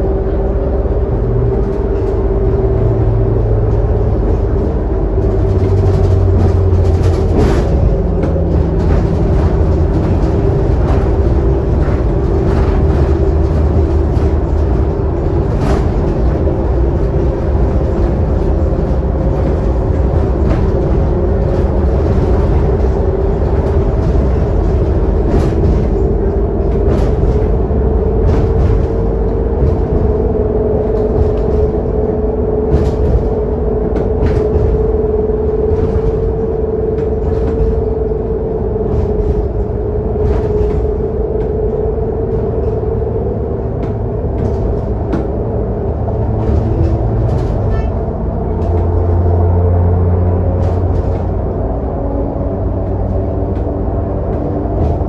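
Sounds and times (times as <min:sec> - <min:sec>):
bus engine low rumble: 0:00.0 - 0:55.0.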